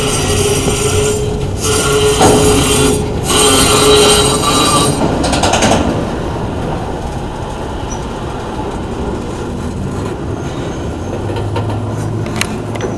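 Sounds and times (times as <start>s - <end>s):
train cars clattering: 0.0s - 12.9s
train wheels rumbling on track: 0.0s - 12.9s.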